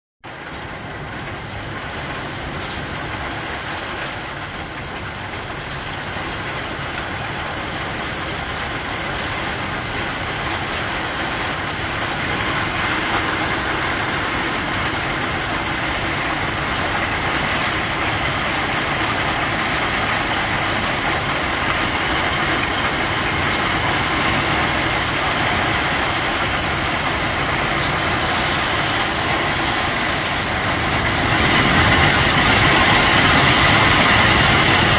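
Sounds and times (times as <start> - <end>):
hail on metal roofs: 0.3 - 34.9.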